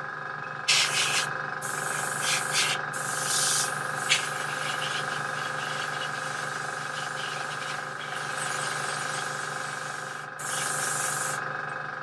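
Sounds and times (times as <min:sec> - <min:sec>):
steady mechanical hum: 0:00.0 - 0:12.0
airbrush spraying hiss: 0:00.7 - 0:11.4.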